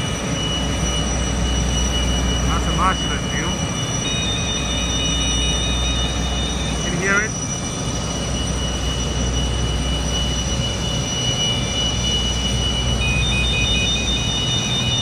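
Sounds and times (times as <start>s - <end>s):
aircraft auxiliary power whine: 0.0s - 15.0s
pulsing ringing horn: 0.0s - 15.0s.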